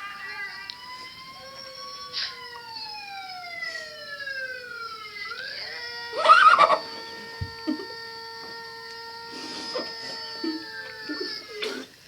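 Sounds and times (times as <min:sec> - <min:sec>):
siren-like gliding tones: 0:00.0 - 0:11.7.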